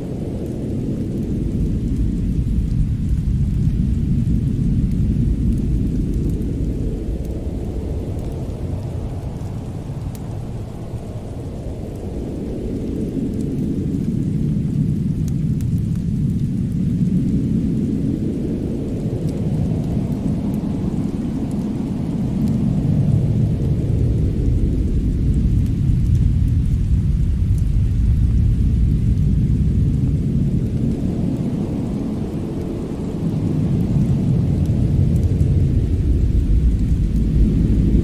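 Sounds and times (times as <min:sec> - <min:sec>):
deep wind rumble: 0:00.0 - 0:38.0
fire crackling: 0:00.0 - 0:38.0.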